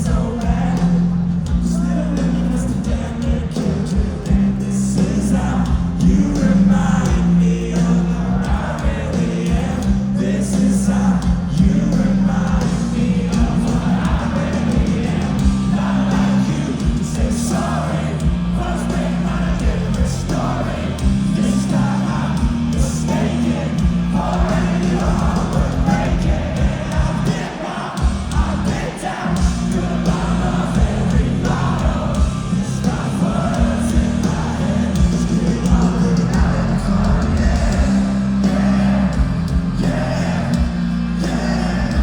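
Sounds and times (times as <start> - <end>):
man singing lead vocal: 0.0 - 42.0
rock band playing: 0.0 - 42.0.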